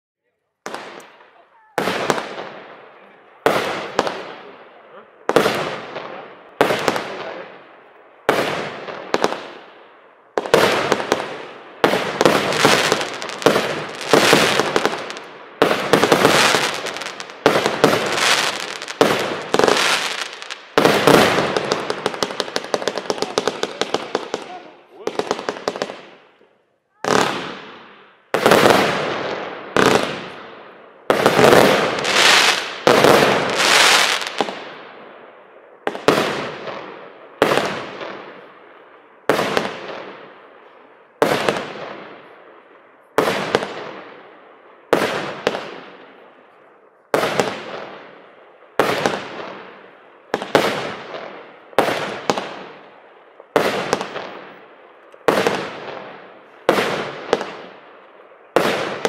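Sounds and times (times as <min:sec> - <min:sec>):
firework bangs: 0:00.6 - 0:26.3, 0:26.9 - 0:40.6, 0:41.2 - 0:46.3, 0:47.1 - 0:59.0.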